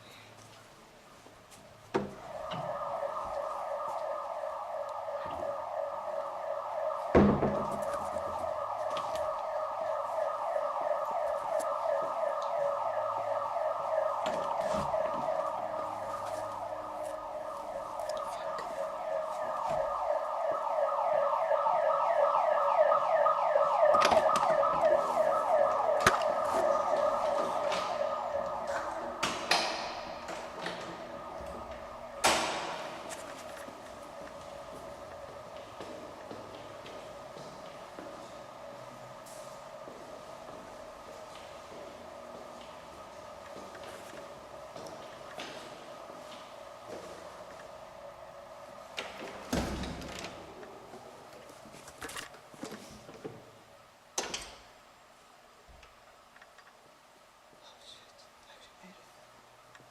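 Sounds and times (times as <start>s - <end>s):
alarm siren sweeping upward: 2.0s - 51.7s.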